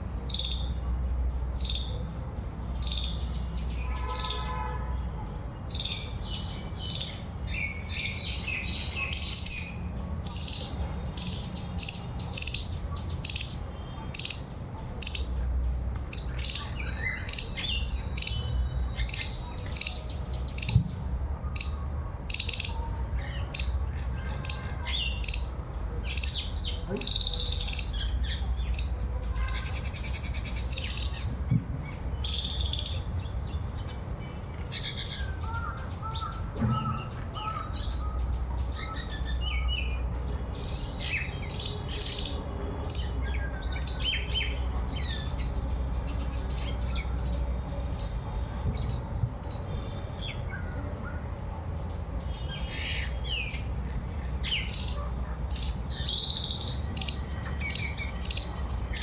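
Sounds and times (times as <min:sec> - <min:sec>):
high-pitched hum: 0:00.0 - 0:59.0
birds chirping: 0:00.2 - 0:04.6, 0:05.6 - 0:59.0.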